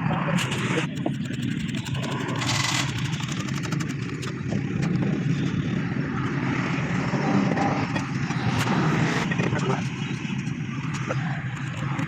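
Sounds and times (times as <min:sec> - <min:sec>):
mechanical rumble: 0:00.0 - 0:12.0.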